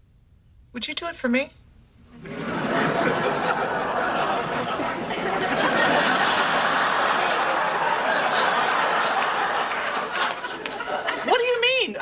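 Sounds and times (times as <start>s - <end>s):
audience laughing: 2.1s - 11.9s.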